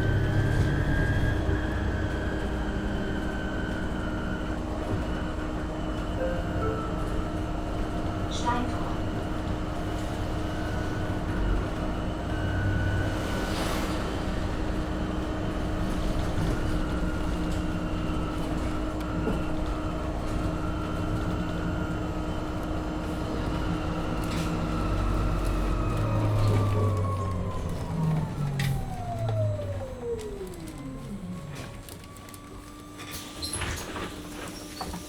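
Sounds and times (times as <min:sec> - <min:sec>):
bus drivetrain humming and whining: 0:00.0 - 0:35.0.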